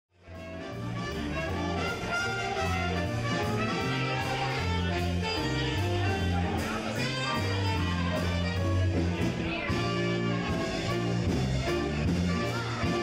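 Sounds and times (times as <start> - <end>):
jazz band playing: 0.2 - 13.0.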